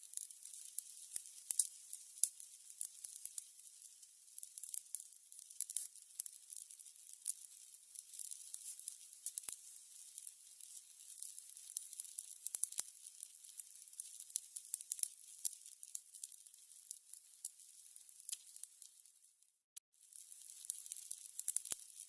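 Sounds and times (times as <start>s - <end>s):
candles crackling: 0.0s - 19.4s, 20.0s - 22.0s.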